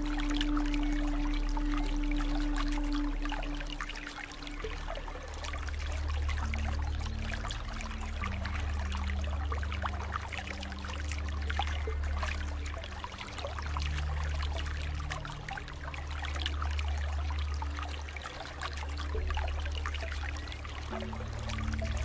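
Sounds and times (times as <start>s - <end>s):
low drone: 0.0s - 22.0s
water trickling and splashing: 0.0s - 22.0s.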